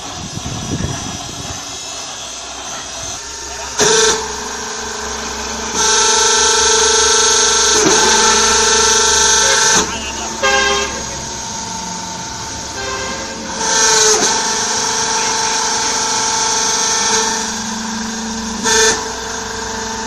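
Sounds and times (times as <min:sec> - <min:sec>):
hydraulic pump whining: 0:00.0 - 0:20.0.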